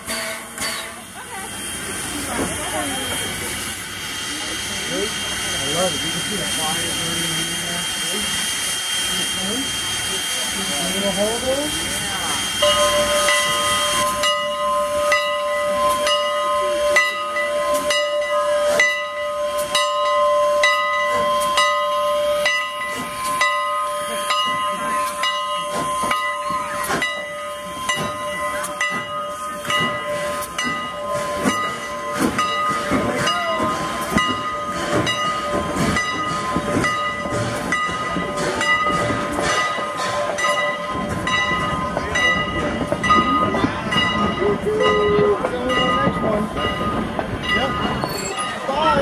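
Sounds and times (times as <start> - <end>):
steam hissing: 0.0 - 45.5
steam locomotive bell ringing: 0.0 - 49.0.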